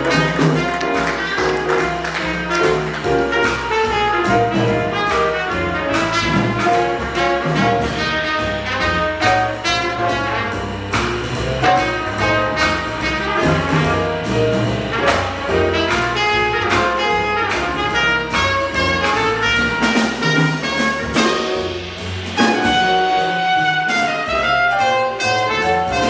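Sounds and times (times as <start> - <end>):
double bass notes: 0.0 - 26.0
drum cymbals: 0.0 - 26.0
piano: 0.0 - 26.0
saxophone and trumpet line: 0.0 - 26.0.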